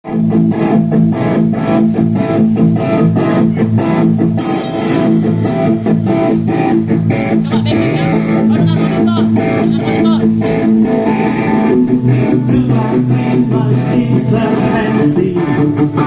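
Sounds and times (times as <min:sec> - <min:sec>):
live rock band playing: 0:00.1 - 0:16.0.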